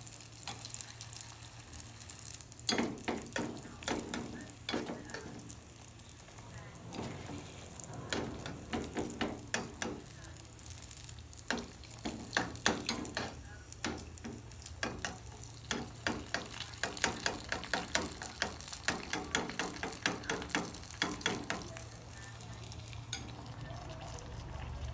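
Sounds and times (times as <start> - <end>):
oil sizzling: 0.0 - 24.9.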